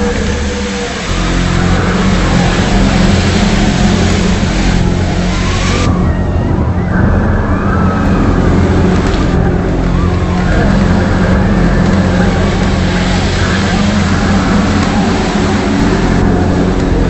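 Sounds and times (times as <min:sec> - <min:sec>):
loud low humming drone: 0:00.0 - 0:17.0
rushing noise: 0:00.0 - 0:17.0.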